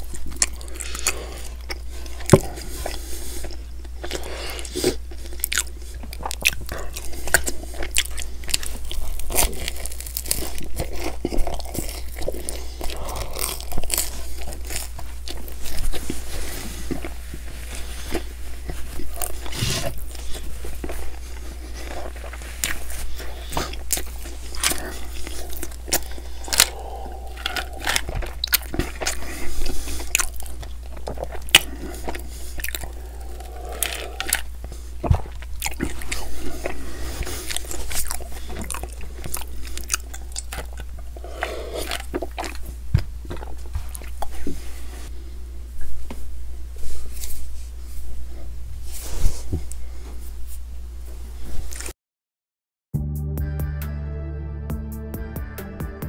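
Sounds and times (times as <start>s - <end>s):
person chewing crunchy food: 0.0s - 45.2s, 51.6s - 51.9s
steady low hum: 0.0s - 51.9s.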